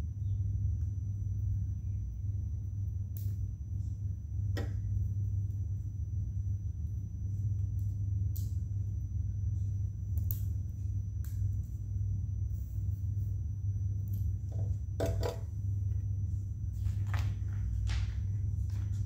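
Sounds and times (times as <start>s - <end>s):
low hum with high whine: 0.0s - 19.0s.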